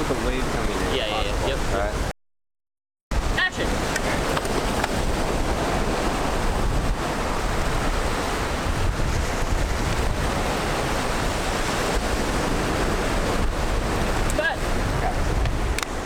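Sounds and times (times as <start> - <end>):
wind noise on microphone: 0.0 - 2.1, 3.1 - 16.0
surf breaking on rocky shore: 3.1 - 16.0.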